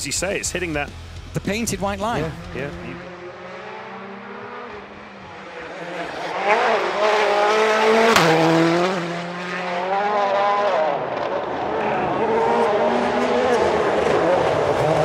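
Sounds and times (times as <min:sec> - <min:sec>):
rally car engine at full throttle: 0:00.0 - 0:15.0.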